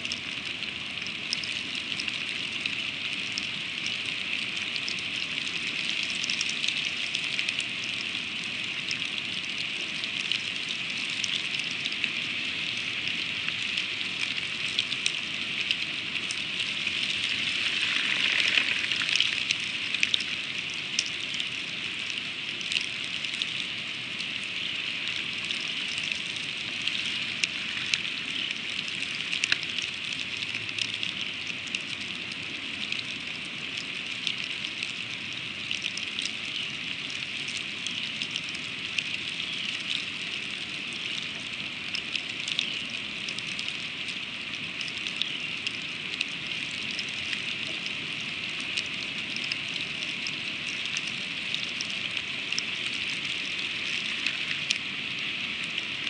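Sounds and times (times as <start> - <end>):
freezing rain hissing: 0.0 - 56.0.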